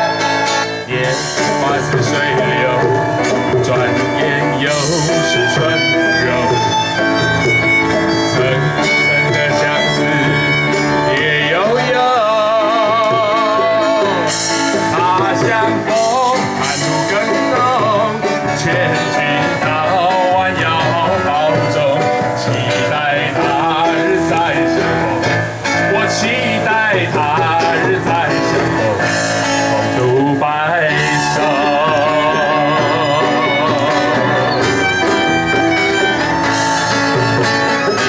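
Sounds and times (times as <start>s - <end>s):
acoustic guitar: 0.0s - 38.0s
lead melody with vibrato: 0.0s - 38.0s.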